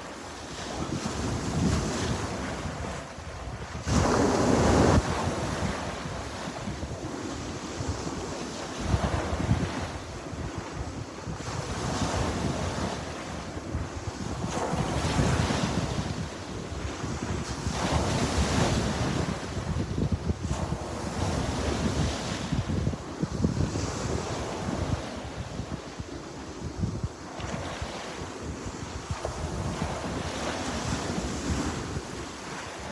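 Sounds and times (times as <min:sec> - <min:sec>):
sea waves breaking on shore: 0:00.0 - 0:32.9
wind buffeting microphone: 0:00.1 - 0:32.9.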